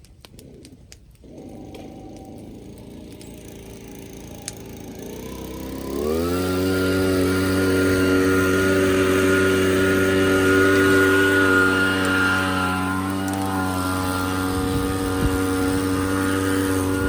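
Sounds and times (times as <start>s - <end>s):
small engine revving: 0.3s - 17.0s.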